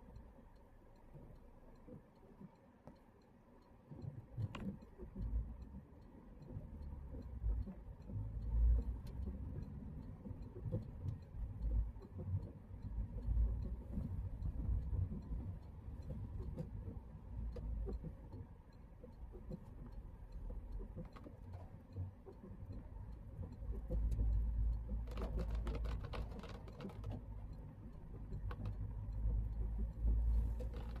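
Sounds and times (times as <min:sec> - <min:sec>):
car engine and road rumble: 0:00.0 - 0:31.0
faint steady ticking: 0:00.0 - 0:31.0.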